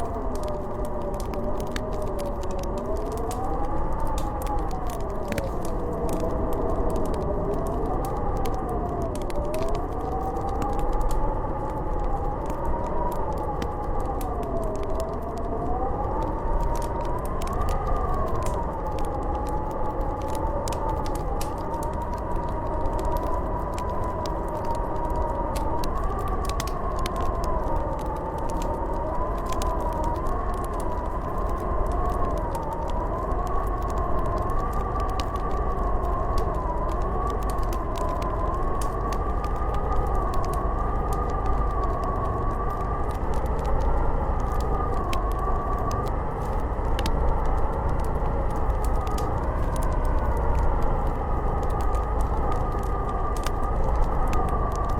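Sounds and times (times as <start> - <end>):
howling snowstorm wind: 0.0 - 54.9
wood fire crackling: 0.0 - 54.9.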